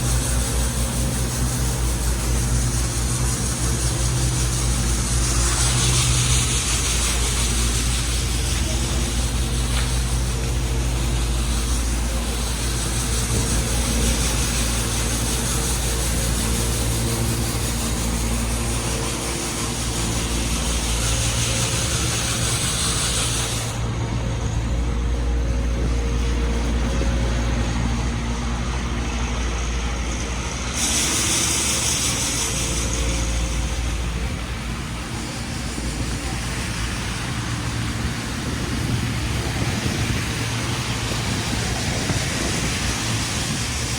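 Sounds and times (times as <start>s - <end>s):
traffic hiss: 0.0s - 43.9s
vehicle engines rumbling: 0.0s - 43.9s.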